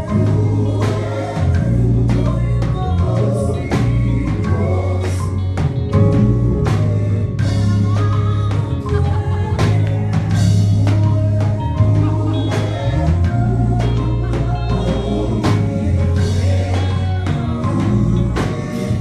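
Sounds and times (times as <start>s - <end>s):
bass line: 0.0s - 19.0s
drum-kit beat: 0.0s - 19.0s
gospel singing: 0.0s - 19.0s.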